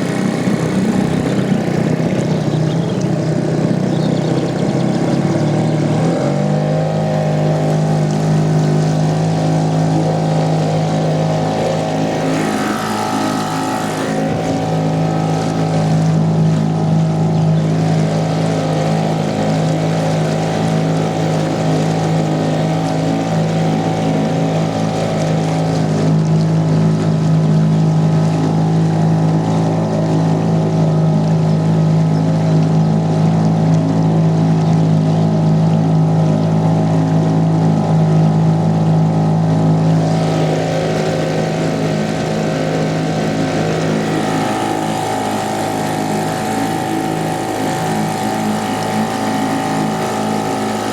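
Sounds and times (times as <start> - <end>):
outboard motor running: 0.0 - 50.9.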